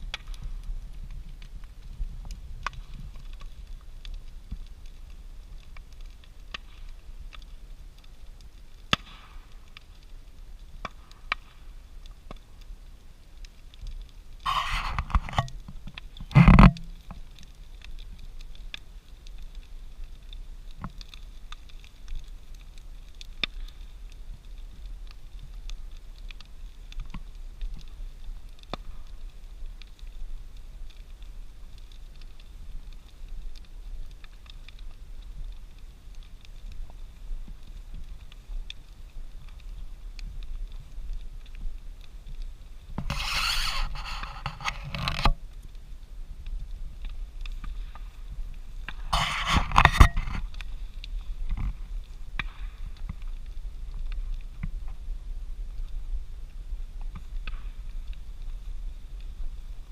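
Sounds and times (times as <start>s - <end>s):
bonfire crackling and popping: 0.0s - 59.9s
fire low rumble: 0.0s - 59.9s.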